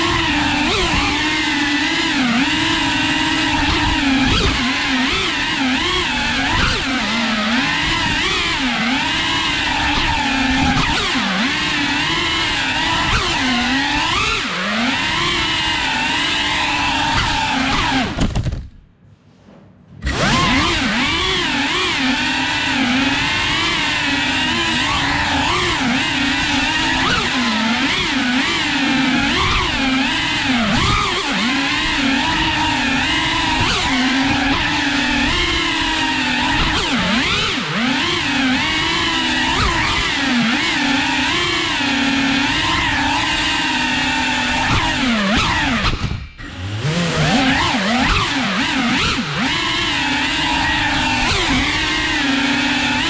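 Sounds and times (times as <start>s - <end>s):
drone motors whining: 0.0s - 18.6s, 19.6s - 53.0s.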